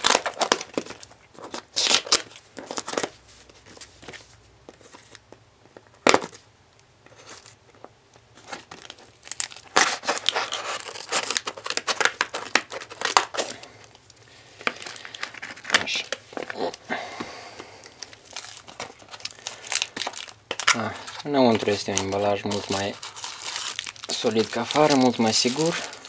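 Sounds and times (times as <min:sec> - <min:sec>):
plastic crinkling and tearing: 0:00.0 - 0:04.2, 0:08.4 - 0:16.9, 0:17.8 - 0:26.0.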